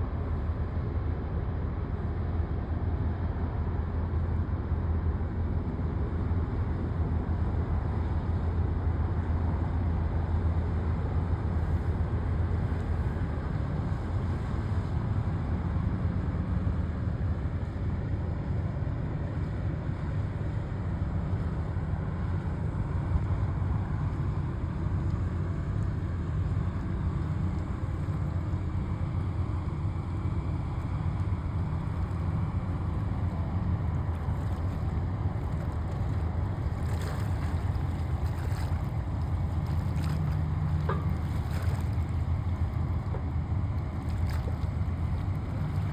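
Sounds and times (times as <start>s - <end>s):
ship engine drone: 0.0s - 45.9s.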